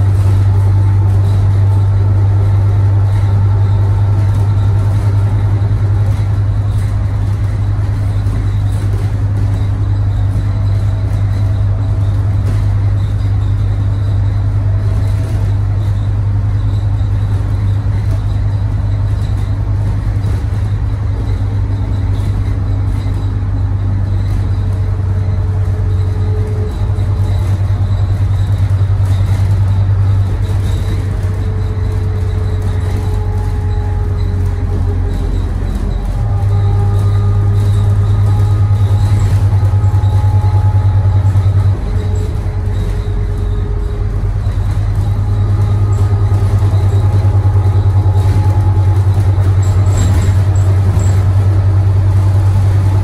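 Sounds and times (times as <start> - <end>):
bus engine drone: 0.0 - 53.0
road noise: 0.0 - 53.0.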